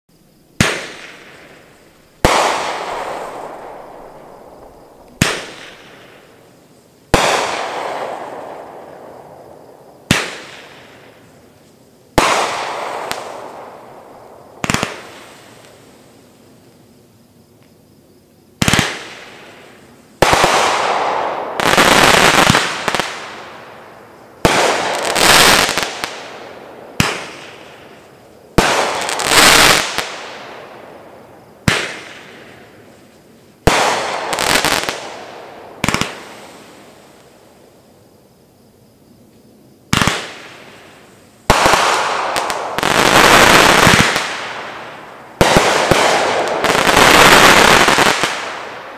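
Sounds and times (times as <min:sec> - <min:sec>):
firework bursting and crackling: 0:00.5 - 0:16.6, 0:18.6 - 0:38.0, 0:39.9 - 0:48.9
firework shots: 0:00.6 - 0:06.5, 0:07.1 - 0:11.5, 0:12.1 - 0:16.1, 0:18.6 - 0:32.9, 0:33.6 - 0:37.4, 0:39.9 - 0:48.9.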